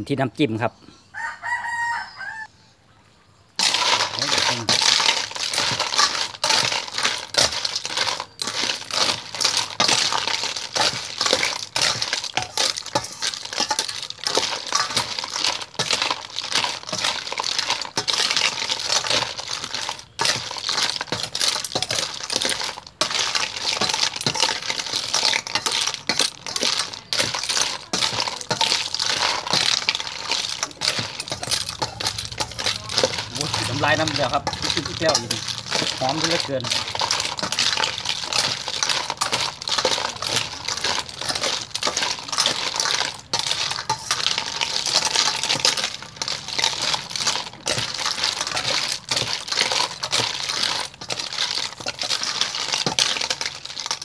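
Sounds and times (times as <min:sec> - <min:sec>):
snail shells clinking in metal bowl: 0:03.6 - 0:54.0.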